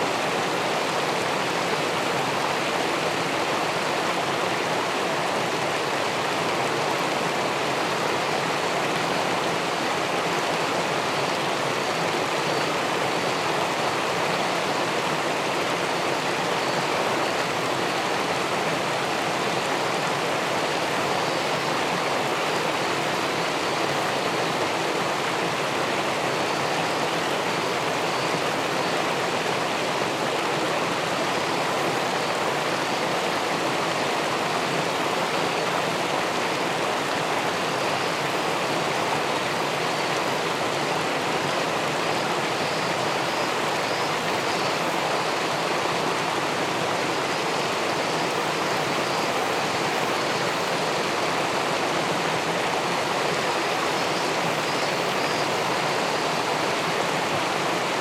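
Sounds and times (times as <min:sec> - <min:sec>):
river water rushing over a weir: 0:00.0 - 0:58.0.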